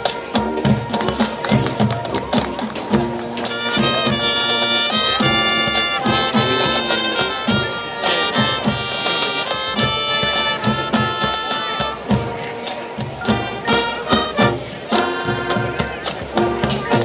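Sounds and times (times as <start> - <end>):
brass chords: 0.0 - 17.0
steady drum beat: 0.0 - 17.0.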